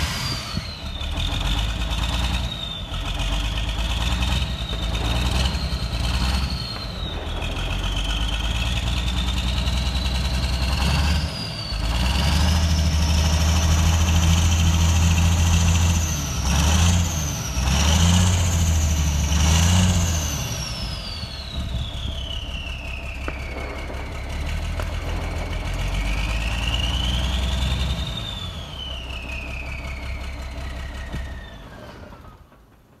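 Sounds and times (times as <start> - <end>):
turbo whine: 0.0 - 32.4
diesel engine revving: 0.0 - 33.0.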